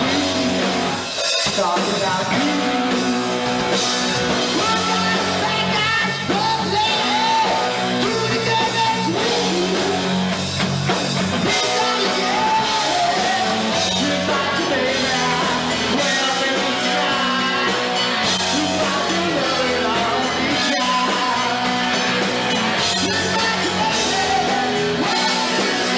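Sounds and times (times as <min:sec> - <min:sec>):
man singing into a microphone: 0:00.0 - 0:03.6, 0:04.4 - 0:10.2, 0:11.4 - 0:22.0, 0:22.8 - 0:25.9
bass guitar: 0:00.0 - 0:25.9
drum kit: 0:00.0 - 0:25.9
electric guitars: 0:00.0 - 0:25.9.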